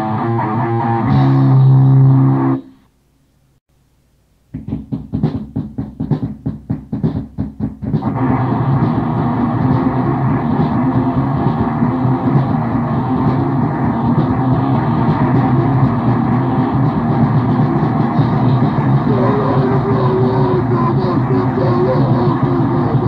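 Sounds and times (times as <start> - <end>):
grindcore band playing: 0.0 - 2.7, 4.6 - 23.0.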